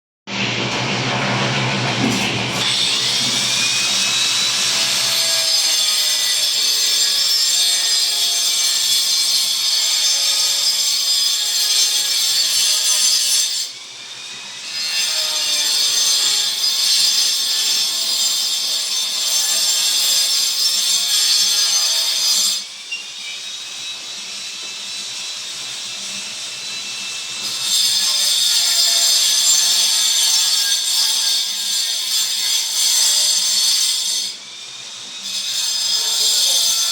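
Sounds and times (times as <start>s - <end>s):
power saw cutting stone: 0.4s - 36.9s.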